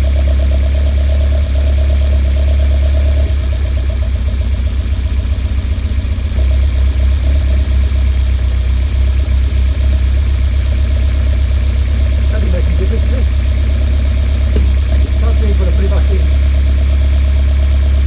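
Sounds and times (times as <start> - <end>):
car engine idling with misfire: 0.0 - 18.0.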